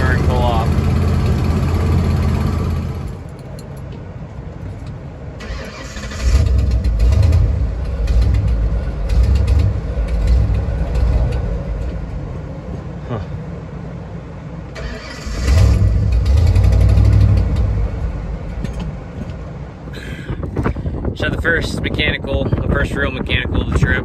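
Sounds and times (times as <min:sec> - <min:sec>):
truck engine sputtering: 0:00.0 - 0:03.9, 0:04.6 - 0:13.6, 0:14.6 - 0:22.0.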